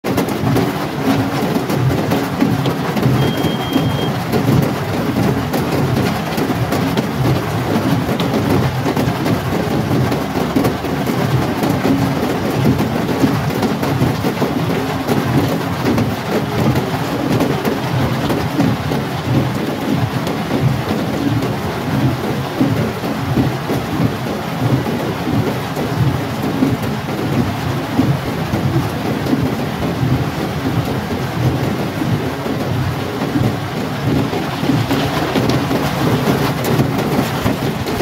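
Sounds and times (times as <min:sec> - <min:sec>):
heavy rain on car roof: 0:00.0 - 0:38.0.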